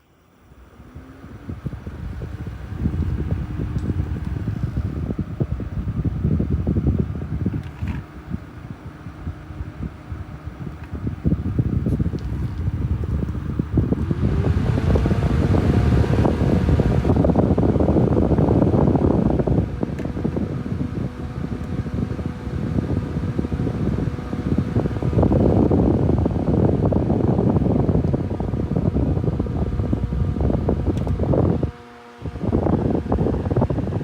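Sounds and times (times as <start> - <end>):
electric fan air rushing: 0.0 - 34.0
faint fan motor tone: 0.0 - 34.0.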